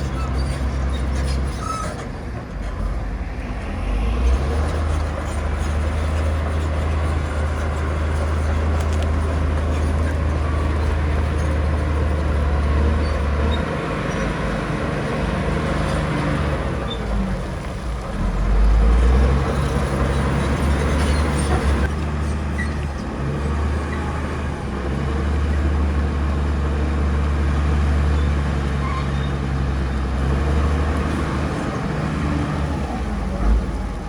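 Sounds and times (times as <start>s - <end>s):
heavy diesel engine droning: 0.0s - 34.0s.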